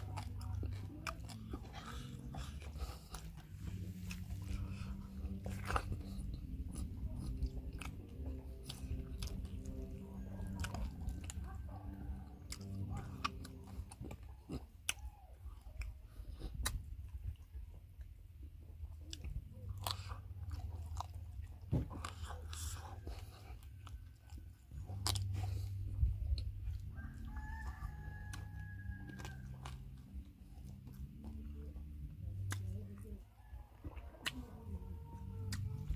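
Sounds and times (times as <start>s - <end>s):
low rumble: 0.0s - 14.4s, 15.1s - 33.2s
person chewing food: 0.0s - 35.9s.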